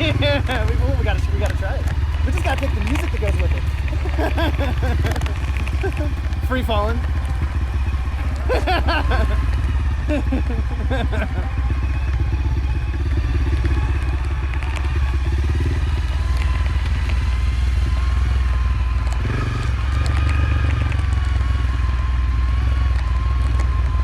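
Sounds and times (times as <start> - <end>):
motorcycle engine running: 0.0 - 24.0
motorcycle rattling: 0.0 - 24.0.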